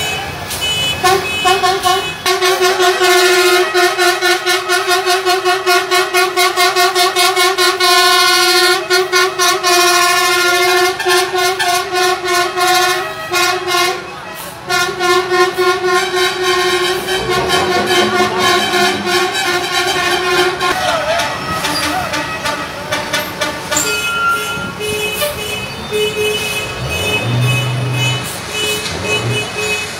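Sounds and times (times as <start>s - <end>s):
truck horn tooting: 0.0s - 29.9s.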